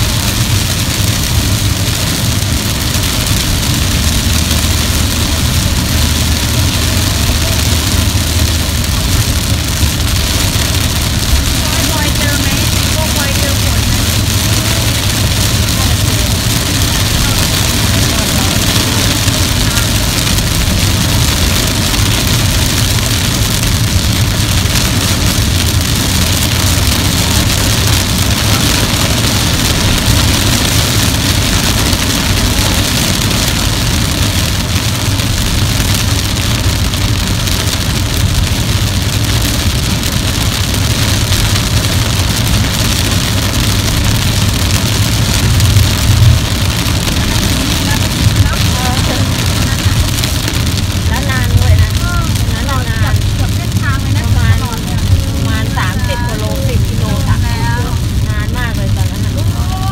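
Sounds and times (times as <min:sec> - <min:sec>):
car engine and tyres rumbling: 0:00.0 - 0:59.9
heavy rain on car windshield: 0:00.0 - 0:59.9.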